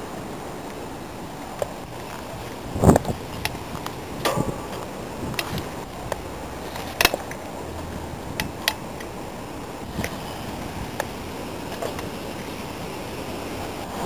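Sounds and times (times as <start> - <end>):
steady outdoor background noise: 0.0 - 14.0.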